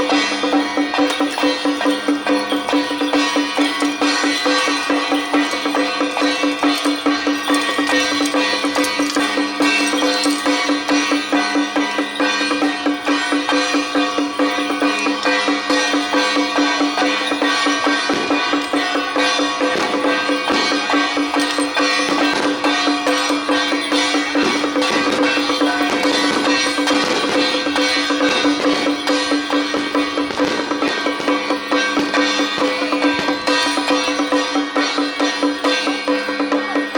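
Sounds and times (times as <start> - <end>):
drums beating rapidly: 0.0 - 36.9.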